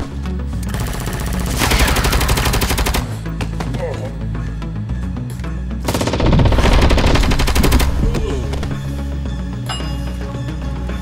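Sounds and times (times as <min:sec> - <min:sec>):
background music with low bass: 0:00.0 - 0:11.0.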